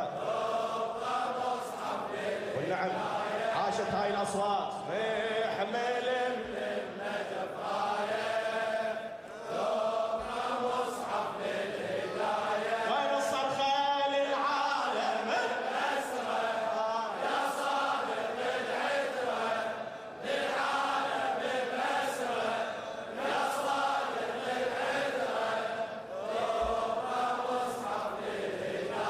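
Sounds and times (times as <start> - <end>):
men chanting together: 0.0 - 29.0.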